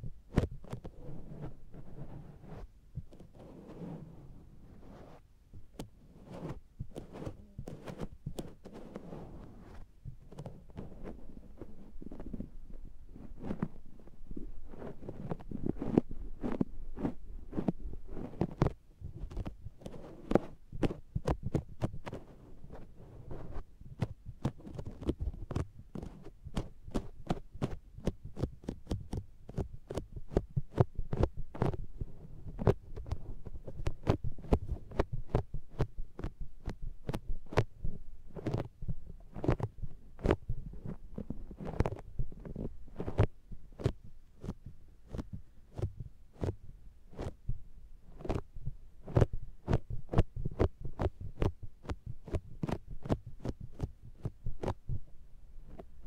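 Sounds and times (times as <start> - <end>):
sponge patting microphone: 0.0 - 56.0.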